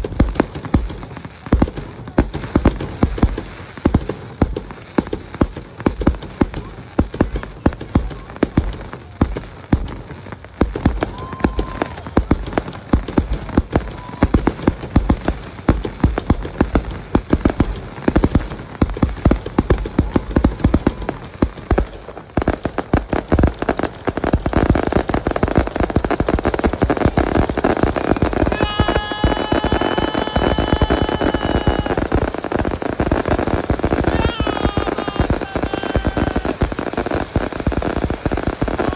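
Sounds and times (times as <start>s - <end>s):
fireworks bursting: 0.0s - 38.9s
fireworks crackling barrage: 0.0s - 38.9s.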